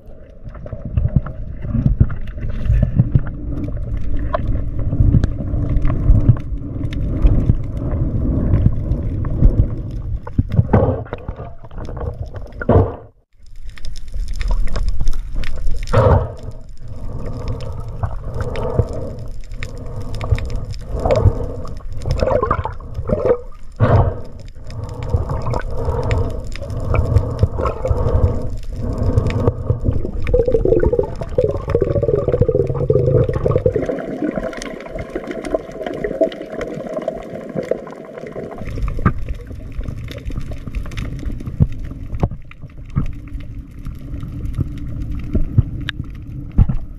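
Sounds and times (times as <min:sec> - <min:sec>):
muffled underwater water rush: 0:00.0 - 0:46.9.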